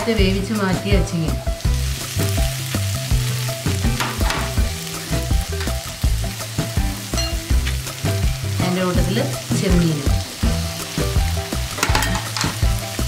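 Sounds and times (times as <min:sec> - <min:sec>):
beans sizzling in a pan: 0:00.4 - 0:13.0.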